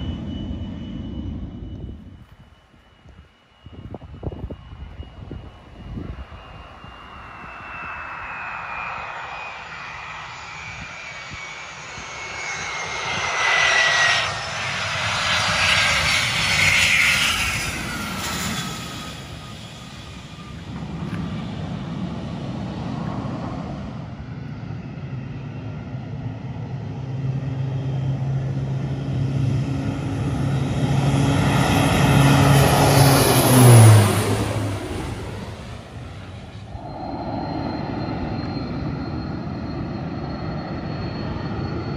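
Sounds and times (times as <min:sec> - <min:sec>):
propeller plane flying overhead: 0:00.0 - 0:41.9
turbine whine: 0:00.0 - 0:41.9.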